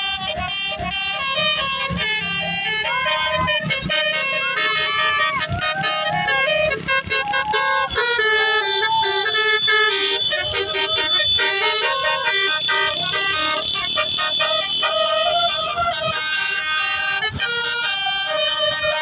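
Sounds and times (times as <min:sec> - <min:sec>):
bus horn playing a melody: 0:00.0 - 0:19.0.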